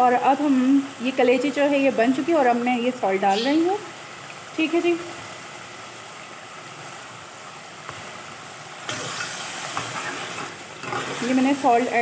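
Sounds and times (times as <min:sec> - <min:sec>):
curry simmering and sizzling: 0:00.0 - 0:12.0.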